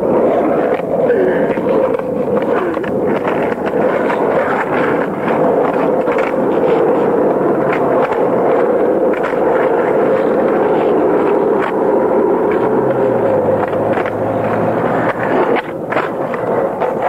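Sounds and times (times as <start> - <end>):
skateboard clicks and clacks: 0.0 - 17.0
skateboard wheels rolling on asphalt: 0.0 - 17.0.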